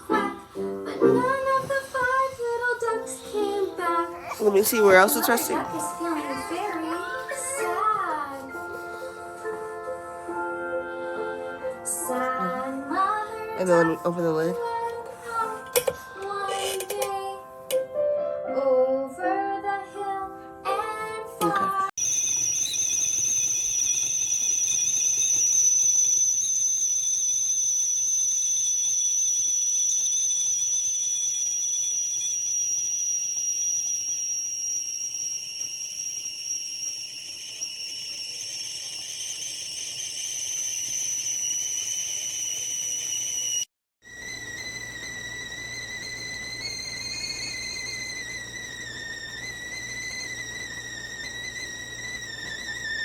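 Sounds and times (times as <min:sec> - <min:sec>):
kettle whistling: 0:00.0 - 0:09.2, 0:12.0 - 0:17.3, 0:21.4 - 0:53.0.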